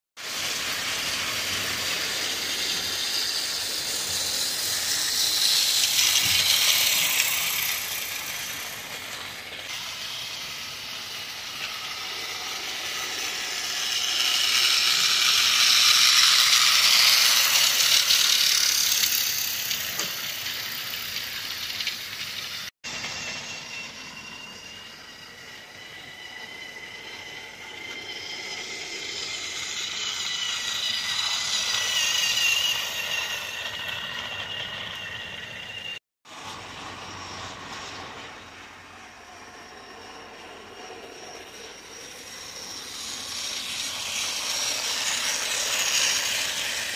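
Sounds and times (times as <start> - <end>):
toy train wheels rattling: 0.2 - 36.0, 40.4 - 46.9
toy train motors whirring: 0.2 - 46.9.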